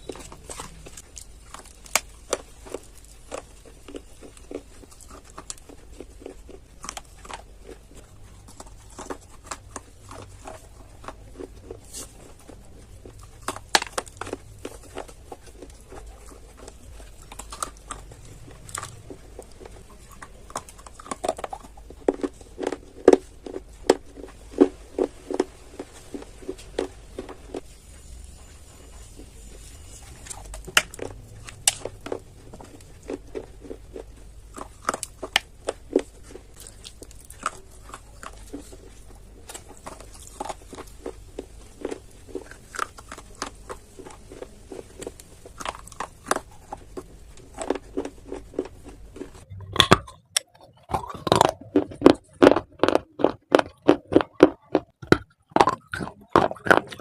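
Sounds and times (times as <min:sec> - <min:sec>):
crunchy chewing of clay: 0:00.0 - 0:57.0.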